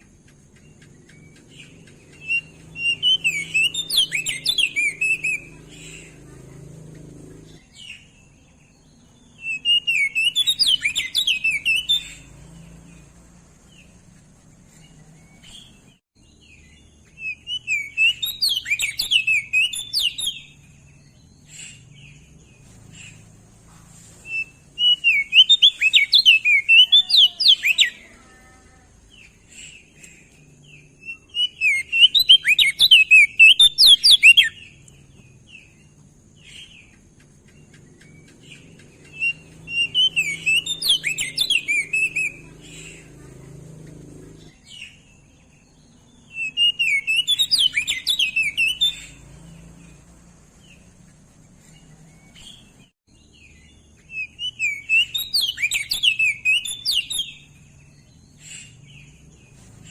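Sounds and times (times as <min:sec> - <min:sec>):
bird twittering: 0:00.0 - 0:59.9
soft bird chirps: 0:00.0 - 0:59.9.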